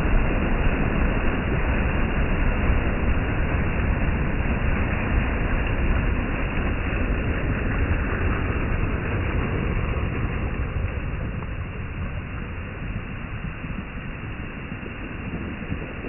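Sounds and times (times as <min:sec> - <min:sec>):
surf washing over pebbles: 0:00.0 - 0:16.0.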